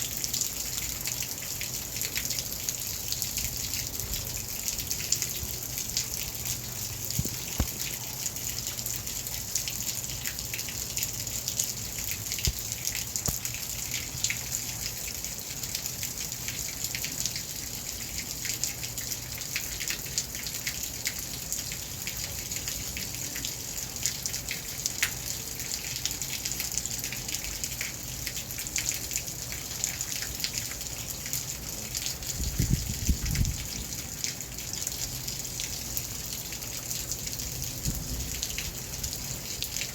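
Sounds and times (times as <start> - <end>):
raindrops ticking and dripping: 0.0 - 39.9
steady rain hiss: 0.0 - 39.9.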